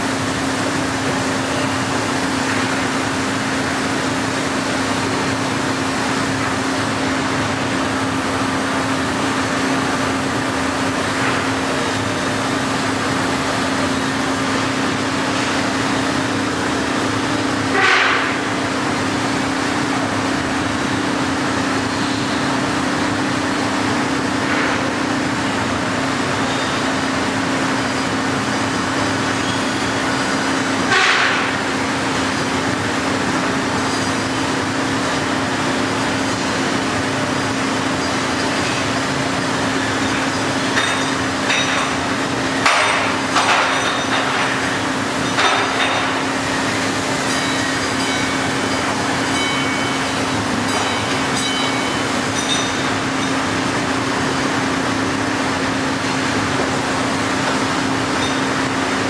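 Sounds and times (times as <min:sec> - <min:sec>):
hydraulic machine humming: 0:00.0 - 0:59.0.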